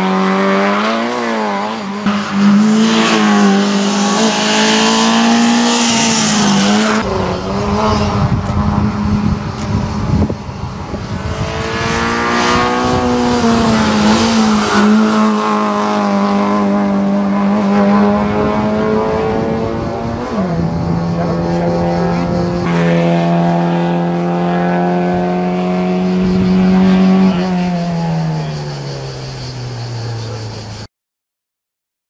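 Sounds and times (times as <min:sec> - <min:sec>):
race car engine at high revs: 0:00.0 - 0:30.8.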